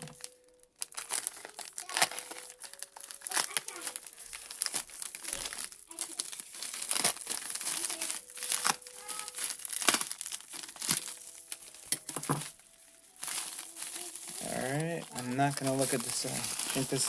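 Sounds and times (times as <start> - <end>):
packaging crinkling and rustling: 0.0 - 17.0
wrapping tearing: 0.0 - 17.0.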